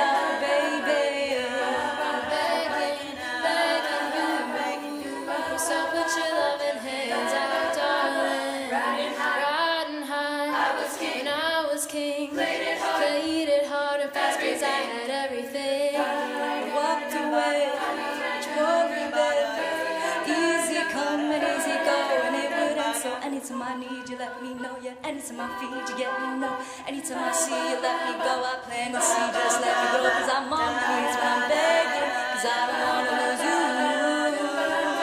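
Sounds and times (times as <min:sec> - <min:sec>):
a cappella group singing: 0:00.0 - 0:35.0.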